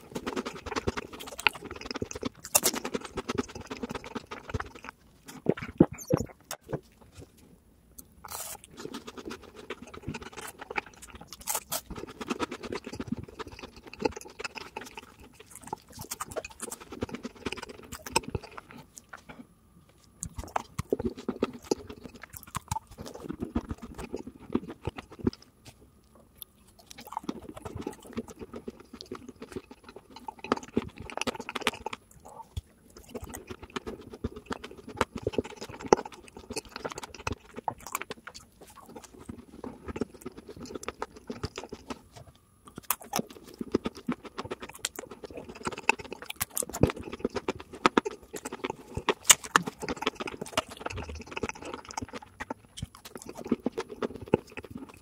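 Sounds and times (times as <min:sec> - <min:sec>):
chewing and crunching chocolate: 0:00.0 - 0:55.0.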